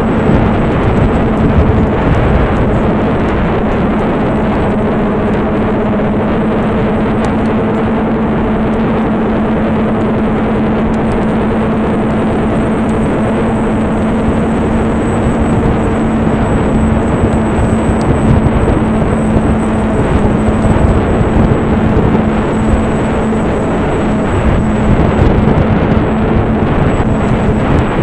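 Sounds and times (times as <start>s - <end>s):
propeller hum: 0.0s - 28.0s
wind buffeting microphone: 0.0s - 28.0s.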